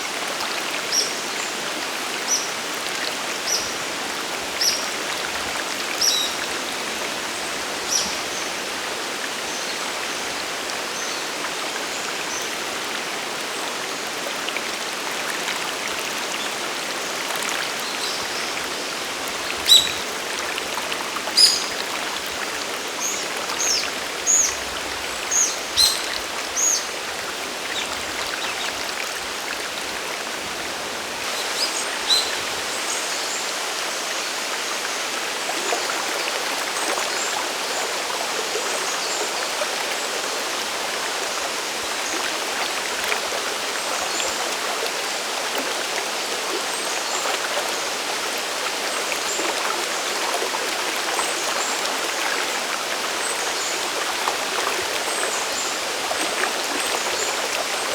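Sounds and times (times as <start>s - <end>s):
stream and waterfall rushing: 0.0s - 57.9s.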